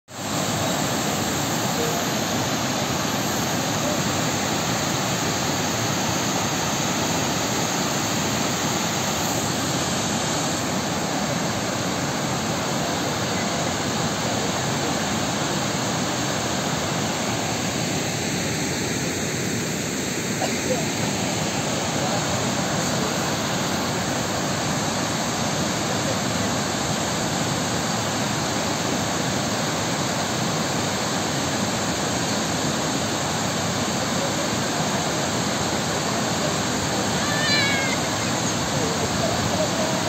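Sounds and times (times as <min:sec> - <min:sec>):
floodwater rushing over spillway: 0:00.1 - 0:40.0.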